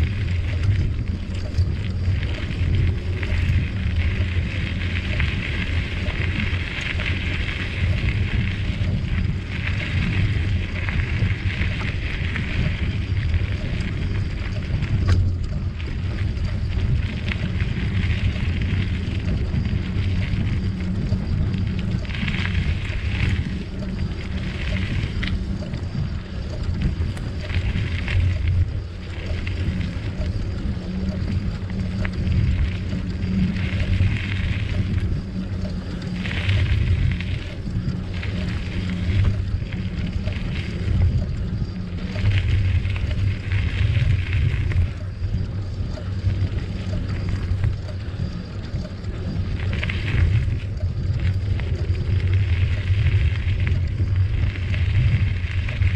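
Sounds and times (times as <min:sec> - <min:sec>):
bicycle tyres on trail: 0:00.0 - 0:55.9
wind rumbling on microphone: 0:00.0 - 0:55.9.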